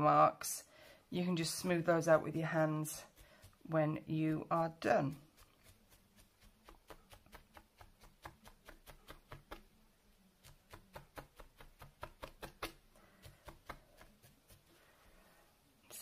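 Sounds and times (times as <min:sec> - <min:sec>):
felting needle tapping: 0:01.5 - 0:14.8.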